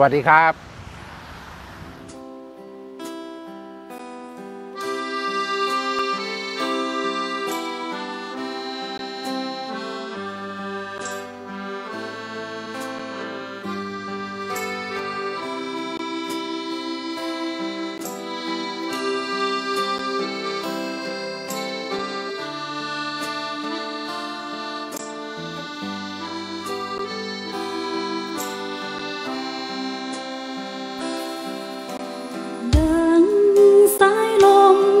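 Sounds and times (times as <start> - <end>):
piano accordion melody: 2.1 - 35.0
strummed acoustic guitar: 2.2 - 33.2.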